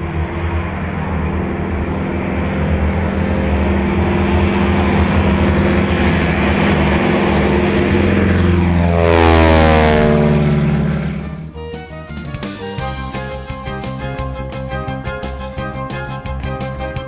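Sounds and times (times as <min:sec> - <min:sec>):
biplane radial engine at high power: 0:00.0 - 0:17.0.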